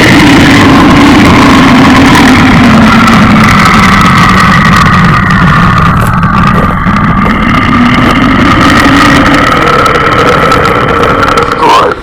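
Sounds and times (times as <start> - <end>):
engine-like air-strike roar: 0.0 - 12.0.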